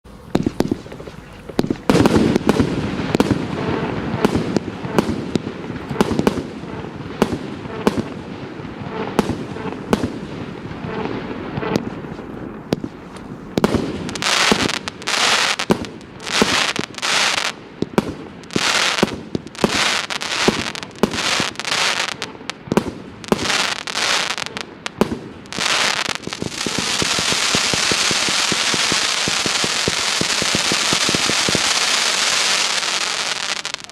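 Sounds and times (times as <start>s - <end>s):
fireworks shells bursting with hiss: 0.1s - 33.9s
fireworks launch shots and bangs: 0.3s - 33.9s.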